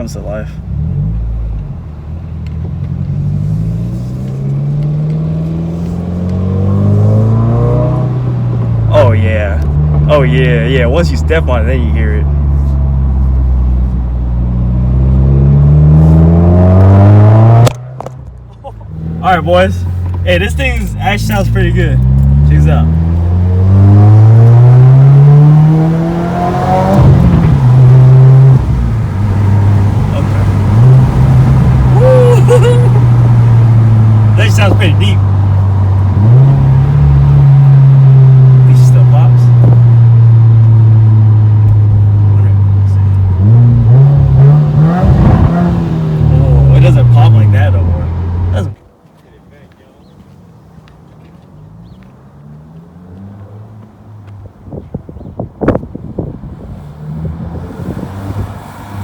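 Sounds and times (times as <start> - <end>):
car exhaust accelerating: 0.5 - 48.8.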